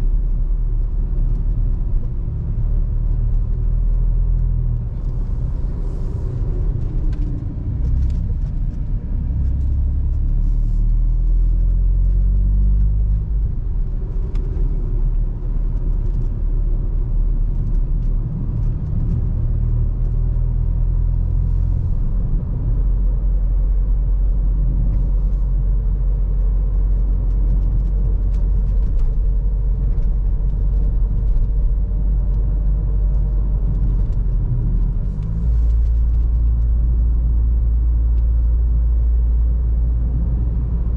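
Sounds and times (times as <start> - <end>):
car engine with deep exhaust rumble: 0.0 - 40.9.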